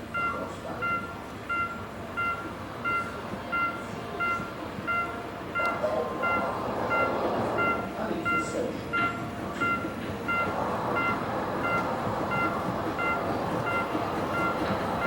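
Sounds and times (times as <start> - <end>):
steady background noise: 0.0 - 15.0
railway crossing bell beeping: 0.1 - 15.0.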